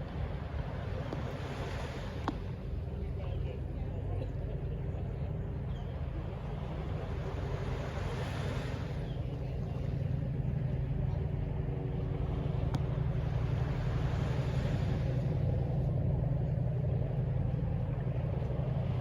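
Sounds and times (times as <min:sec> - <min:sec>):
distant city traffic rumble: 0:00.0 - 0:19.0.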